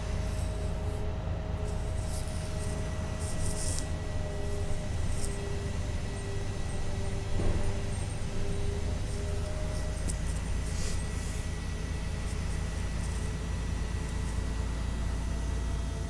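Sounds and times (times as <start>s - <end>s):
bus cabin drone with whine: 0.0s - 16.0s.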